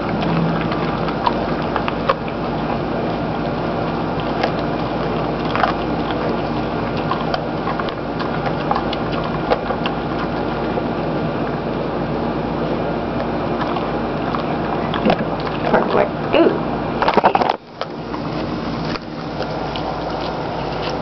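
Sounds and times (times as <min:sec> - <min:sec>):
dog chewing and crunching bone: 0:00.0 - 0:21.0.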